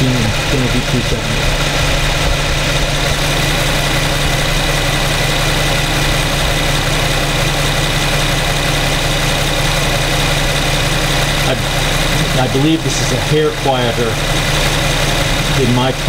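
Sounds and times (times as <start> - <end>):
car engine idling: 0.0 - 16.0
high-pitched engine whine: 0.0 - 16.0.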